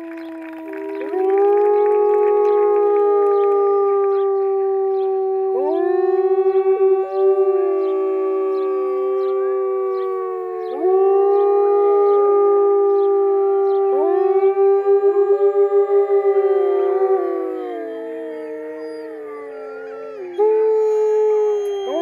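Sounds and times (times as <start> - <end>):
wolves howling in chorus: 0.0 - 22.0.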